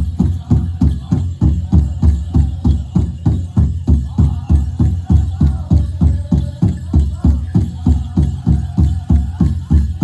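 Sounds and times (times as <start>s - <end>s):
big drum fast steady beat: 0.0s - 10.0s.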